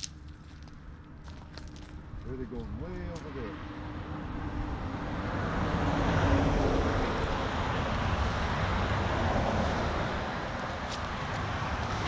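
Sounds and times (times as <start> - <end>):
vehicle passing: 0.7 - 12.0.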